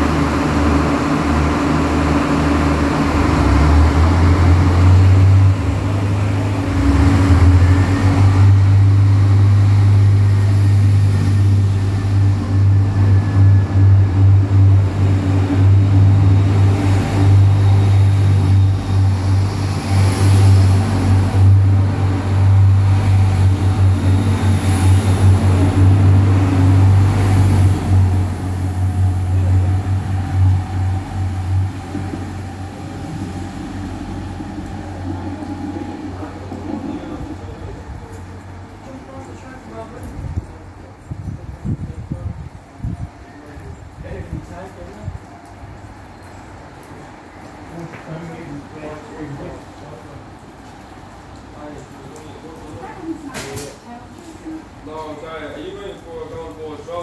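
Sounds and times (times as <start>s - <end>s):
train low hum: 0.0s - 57.0s.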